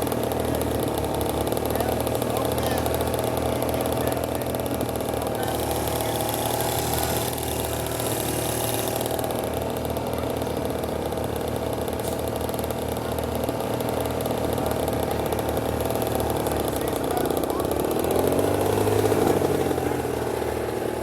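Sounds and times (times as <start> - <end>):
dirt bike engine idling: 0.0 - 21.0.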